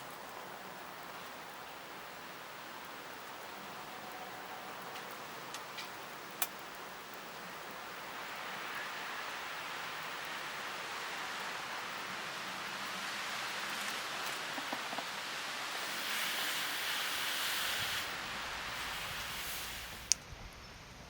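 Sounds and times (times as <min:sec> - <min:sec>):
wood fire hissing: 0:00.0 - 0:20.2
fire crackles: 0:00.0 - 0:20.3.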